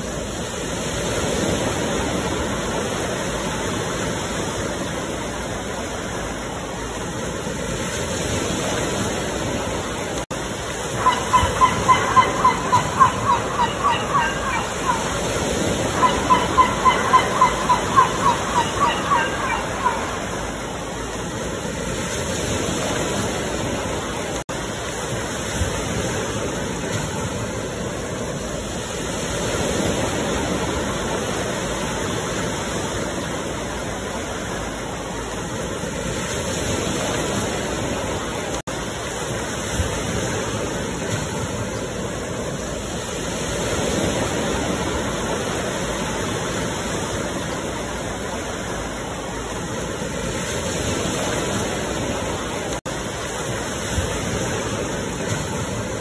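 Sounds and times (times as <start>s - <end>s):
ocean surf washing in: 0.0s - 56.0s.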